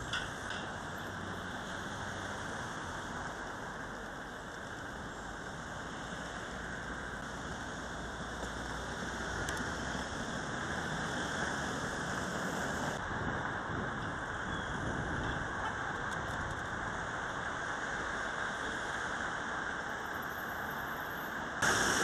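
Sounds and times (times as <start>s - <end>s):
even outdoor hiss: 0.0s - 22.0s.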